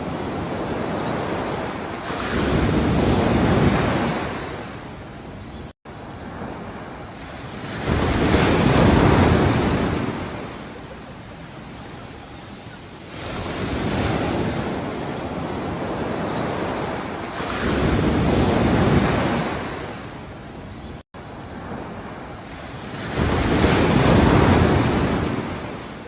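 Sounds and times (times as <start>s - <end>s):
ocean waves breaking: 0.0s - 26.0s.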